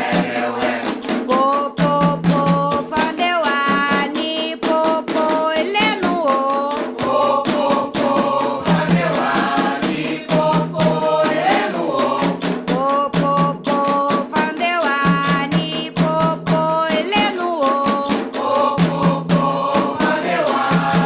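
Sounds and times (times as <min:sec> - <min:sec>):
voices chanting together: 0:00.0 - 0:02.7, 0:05.6 - 0:14.0, 0:15.0 - 0:21.0
driving percussion rhythm: 0:00.0 - 0:21.0.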